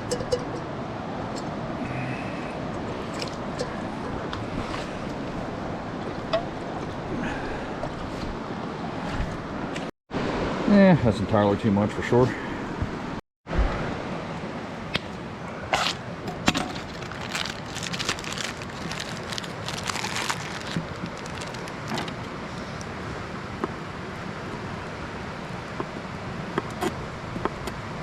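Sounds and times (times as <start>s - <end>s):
stream rushing: 0.0s - 11.3s, 12.0s - 26.4s.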